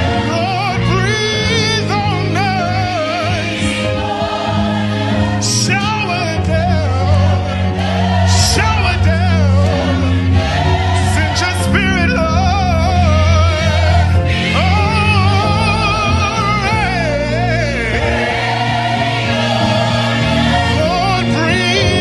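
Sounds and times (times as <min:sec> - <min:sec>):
bass and keyboard chords: 0:00.0 - 0:22.0
choir singing with vibrato: 0:00.0 - 0:22.0.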